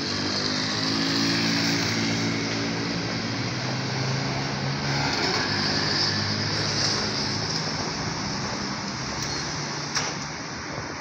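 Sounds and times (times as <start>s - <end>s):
road noise hum: 0.0s - 11.0s.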